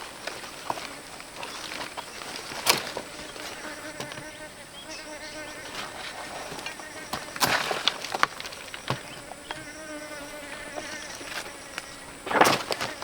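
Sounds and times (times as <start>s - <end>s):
flying insect buzzing: 0.4s - 13.0s.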